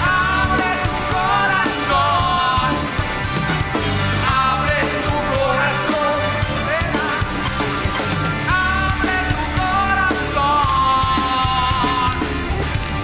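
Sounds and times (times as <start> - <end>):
lead melody with bending notes: 0.0 - 13.0
rock band playing: 0.0 - 13.0.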